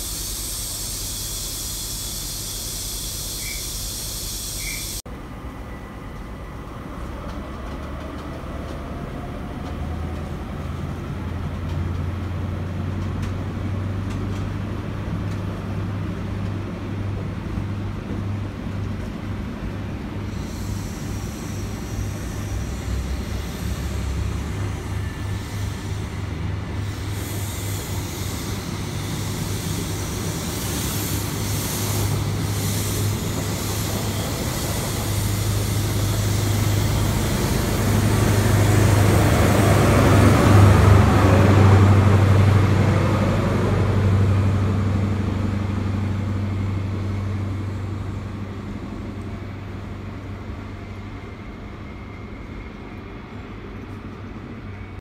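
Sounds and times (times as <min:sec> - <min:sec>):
train running past: 0:00.0 - 0:55.0.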